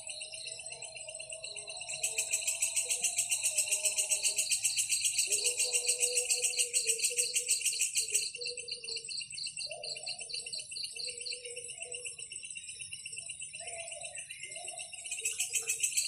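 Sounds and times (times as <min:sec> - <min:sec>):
insects chirping in pulses: 0:00.0 - 0:16.0.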